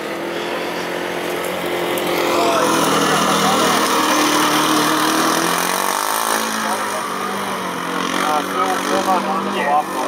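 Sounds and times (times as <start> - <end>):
race car engine revving: 0.0 - 10.0.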